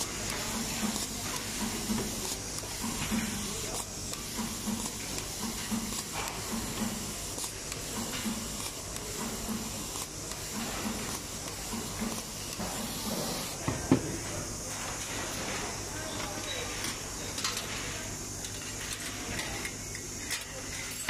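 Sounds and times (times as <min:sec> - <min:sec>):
steady air hiss: 0:00.0 - 0:18.4.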